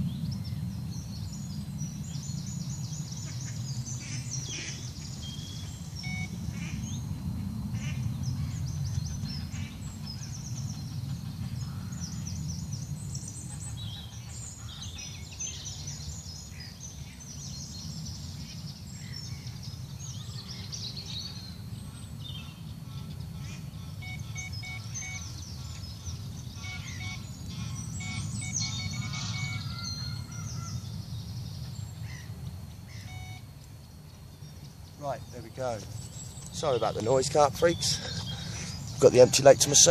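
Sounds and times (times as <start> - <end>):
birds chirping: 0.0 - 39.9
steady low rumble: 0.0 - 39.9.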